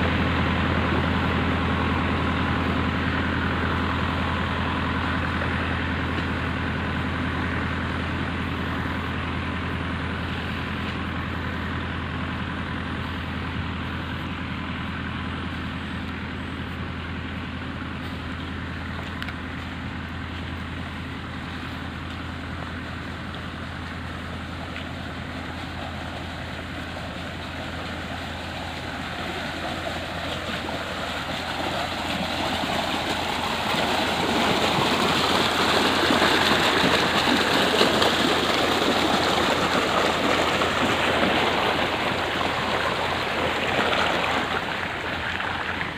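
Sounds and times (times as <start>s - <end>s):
engine humming: 0.0s - 45.9s
rushing water in a channel: 0.0s - 45.9s.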